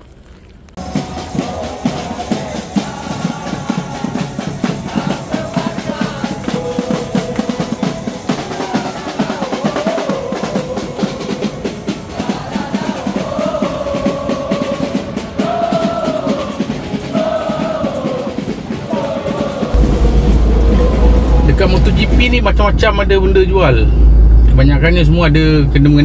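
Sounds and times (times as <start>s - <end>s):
crowd chanting in unison: 0.8s - 22.4s
fast steady drumming: 0.8s - 23.7s.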